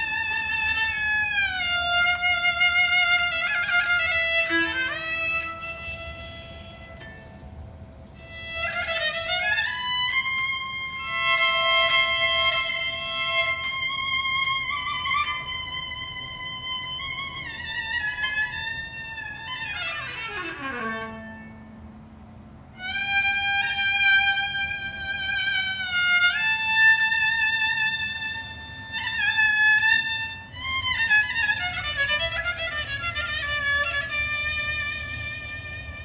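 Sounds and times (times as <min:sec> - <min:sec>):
bowed fiddle playing slow melody: 0:00.0 - 0:36.0.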